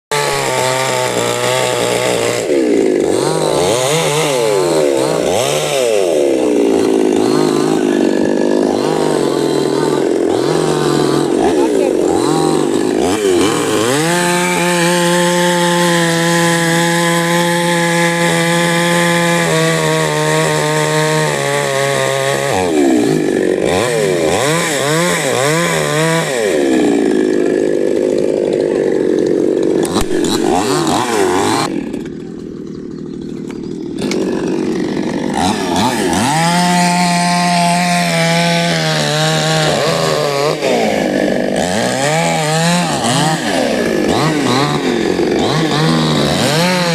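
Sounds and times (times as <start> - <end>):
chainsaw cutting wood: 0.1 - 46.9.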